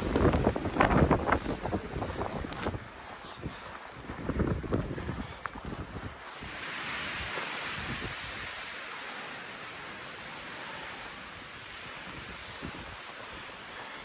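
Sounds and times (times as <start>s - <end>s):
blizzard wind through trees: 0.0s - 14.0s.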